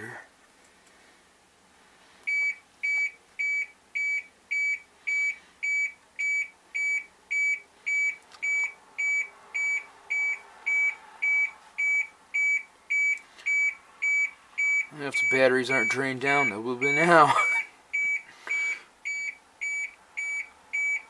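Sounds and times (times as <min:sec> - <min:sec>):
dashboard warning buzzer beeping: 0:02.3 - 0:21.0.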